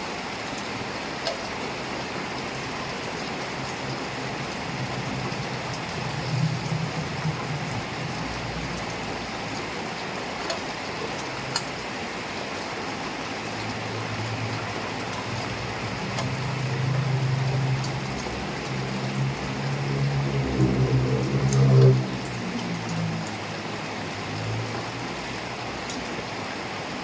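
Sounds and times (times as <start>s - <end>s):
heavy rain falling: 0.0s - 27.0s
low engine-like hum: 0.5s - 27.0s.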